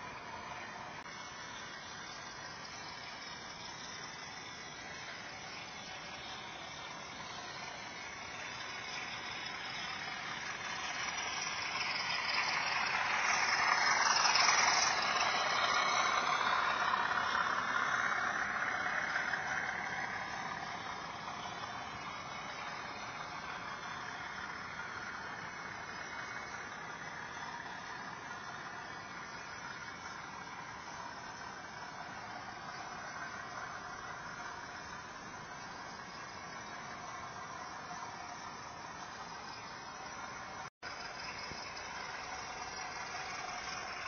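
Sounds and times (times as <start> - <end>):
model locomotive motor: 0.0 - 44.0
model train wheels rumbling: 0.0 - 44.0.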